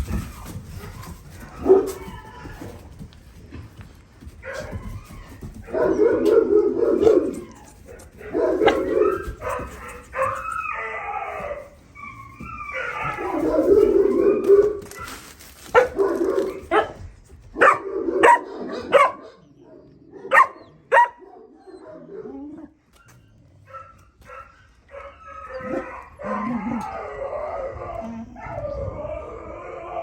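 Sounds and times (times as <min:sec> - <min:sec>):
puppies barking: 0:00.0 - 0:03.0, 0:04.2 - 0:19.5, 0:20.2 - 0:22.2, 0:23.7 - 0:27.5
puppies whining and howling: 0:00.0 - 0:03.1, 0:04.4 - 0:17.0, 0:18.7 - 0:30.0.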